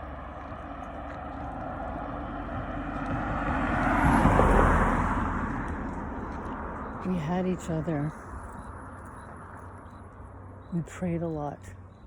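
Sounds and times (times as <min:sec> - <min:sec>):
car passing by: 0:00.0 - 0:10.4.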